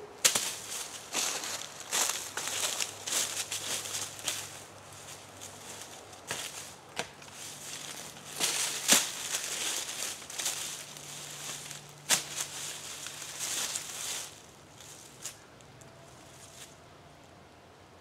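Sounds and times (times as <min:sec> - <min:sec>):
footsteps crunching dry leaves: 0:00.0 - 0:15.5.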